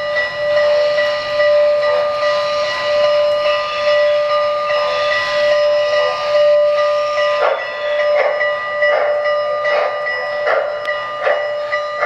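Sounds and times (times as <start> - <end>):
steam whistle chord: 0.0 - 12.0.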